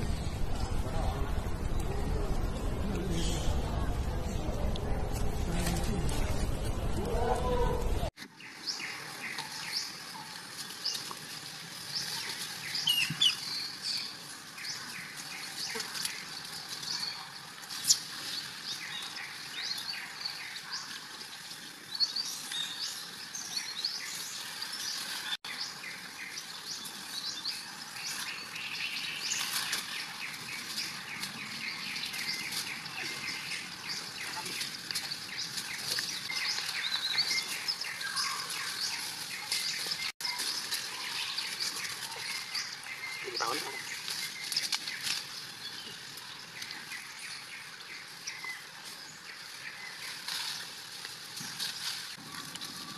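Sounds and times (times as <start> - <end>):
small birds chirping: 7.2 - 52.9.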